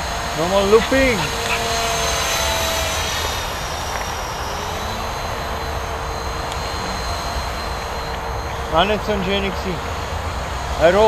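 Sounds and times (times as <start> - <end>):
rc helicopter whine: 0.0 - 11.0.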